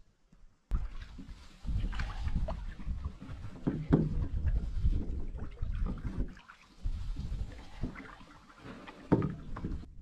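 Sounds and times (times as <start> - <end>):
canoe knocks: 0.7 - 6.3, 7.2 - 9.9
paddle and hull rumbling: 0.7 - 10.0.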